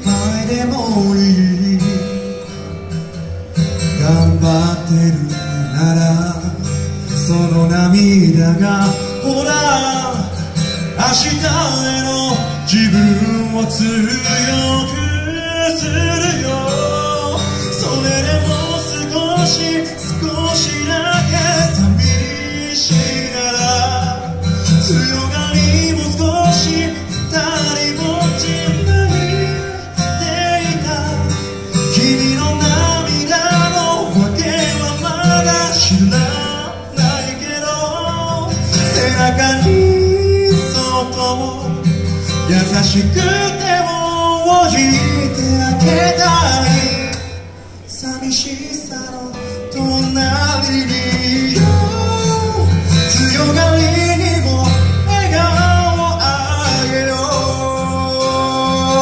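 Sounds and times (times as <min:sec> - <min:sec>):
man singing into microphone: 0:00.0 - 0:02.6, 0:03.8 - 0:59.0
acoustic guitar: 0:00.0 - 0:59.0.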